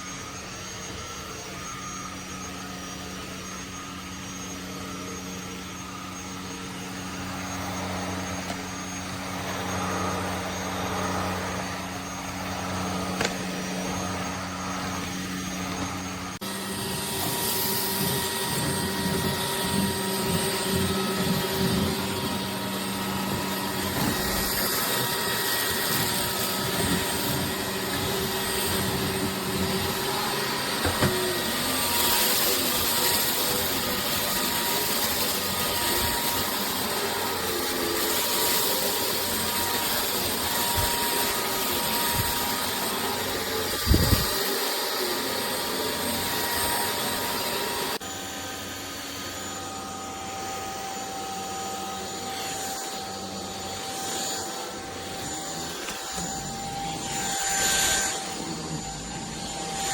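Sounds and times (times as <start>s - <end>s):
stick vacuum cleaner running: 0.0s - 59.9s.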